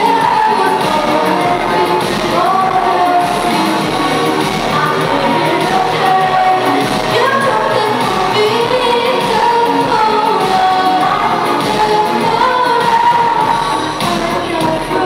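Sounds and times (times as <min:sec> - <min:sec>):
synthesizer backing: 0:00.0 - 0:15.0.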